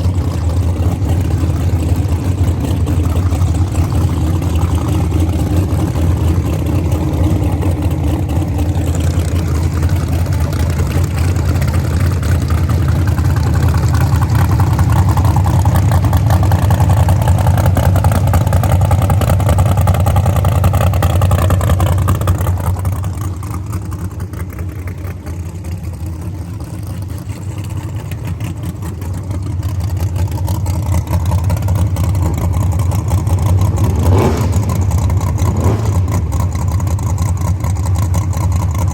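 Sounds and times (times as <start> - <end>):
race car engine rumbling: 0.0 - 38.9.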